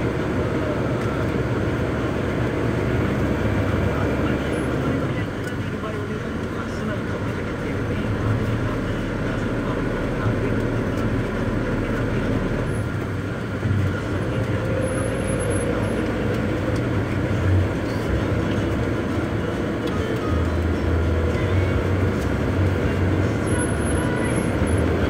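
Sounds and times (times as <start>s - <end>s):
bus engine rumble: 0.0s - 25.0s
road noise: 0.0s - 25.0s.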